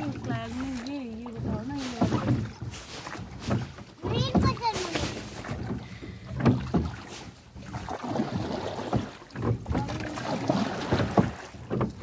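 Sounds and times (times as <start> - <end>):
oars splashing in water: 0.0 - 12.0.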